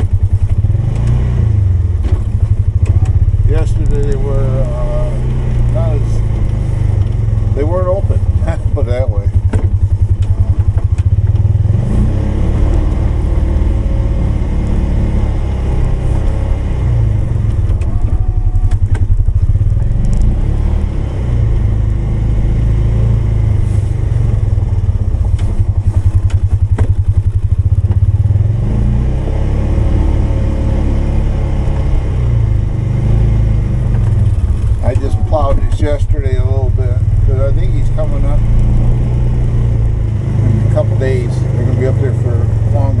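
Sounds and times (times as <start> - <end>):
engine running under load: 0.0 - 43.0.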